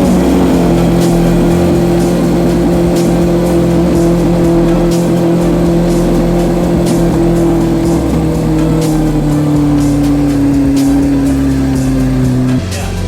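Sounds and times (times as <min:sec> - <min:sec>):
car engine steady note: 0:00.0 - 0:13.0.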